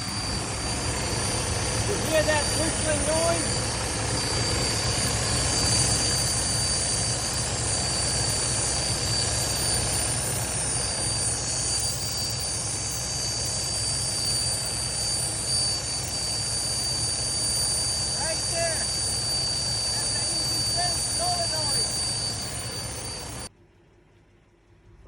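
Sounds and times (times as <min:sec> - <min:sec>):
high whistle of air leaking: 0:00.0 - 0:23.5
diesel engine running: 0:00.0 - 0:25.0.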